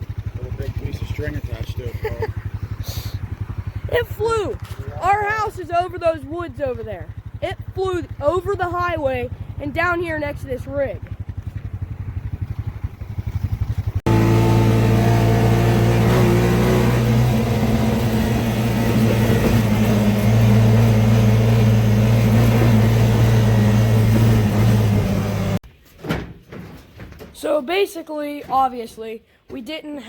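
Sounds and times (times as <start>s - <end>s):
vehicle engine running: 0.0s - 25.6s.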